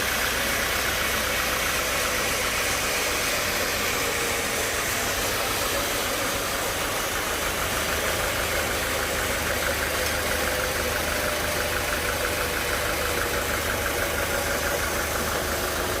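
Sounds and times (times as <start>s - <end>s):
sawmill machinery droning: 0.0s - 16.0s.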